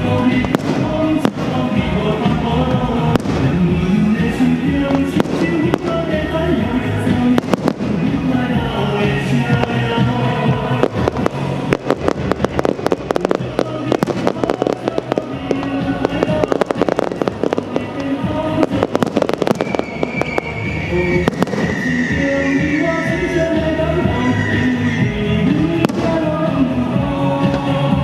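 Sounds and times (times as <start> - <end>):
fireworks bangs and crackles: 0.0 - 28.0
music playing: 0.0 - 28.0.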